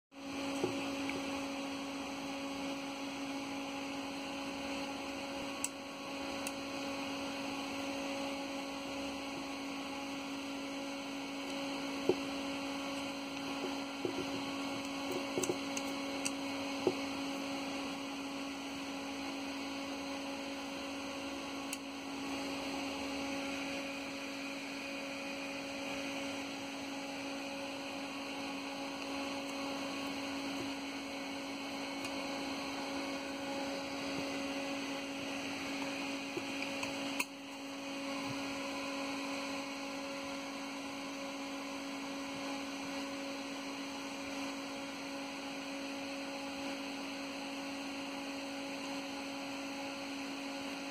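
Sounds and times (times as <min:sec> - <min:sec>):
electrical hum: 0:00.2 - 0:50.9.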